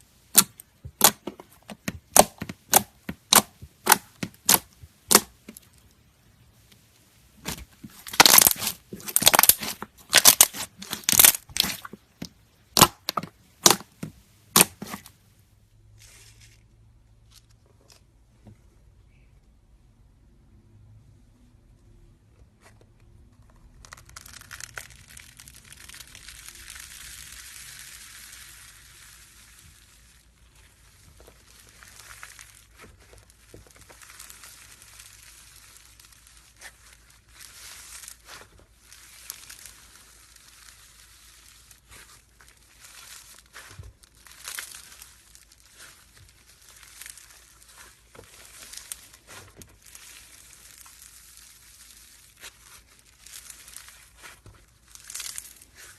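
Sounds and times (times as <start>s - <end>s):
slime squishing crackles: 0.0s - 15.2s, 22.6s - 55.9s.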